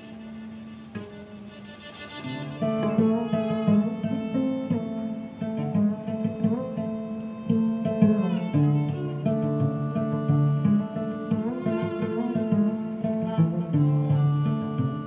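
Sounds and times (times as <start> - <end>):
cello playing: 0.0 - 15.0
plucked string notes: 0.0 - 15.0
violin playing: 0.0 - 15.0.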